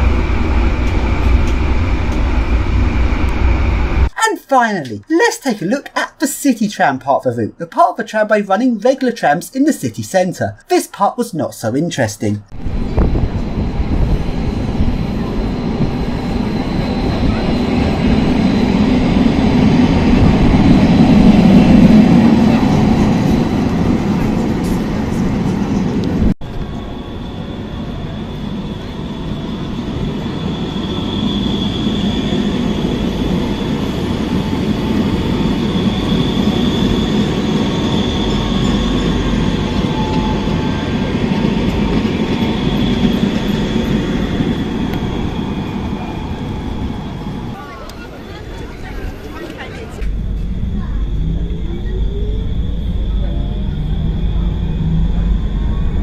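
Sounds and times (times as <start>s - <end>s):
tram rumbling on track: 0.0s - 4.2s, 12.4s - 56.0s
high steady tram whine: 0.0s - 56.0s.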